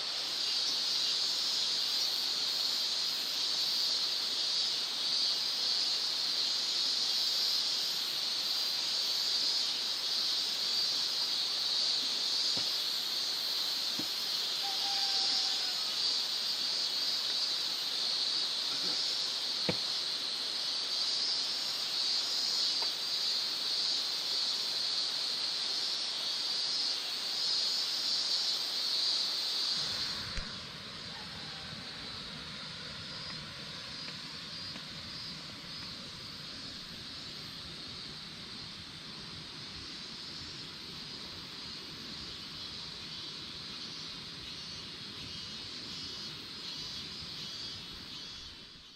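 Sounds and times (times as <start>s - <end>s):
high-pitched outdoor hiss: 0.0s - 48.9s.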